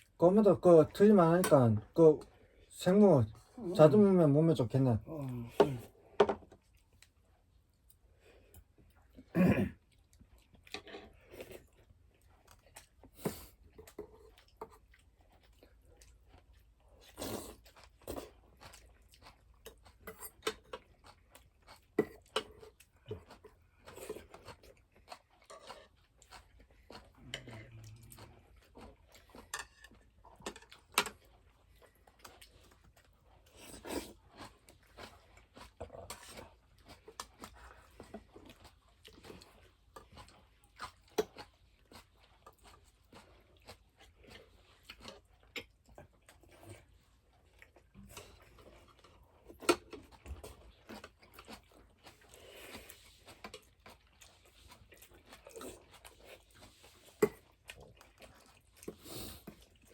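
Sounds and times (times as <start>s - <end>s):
chewing crisp radish: 6.6s - 59.9s.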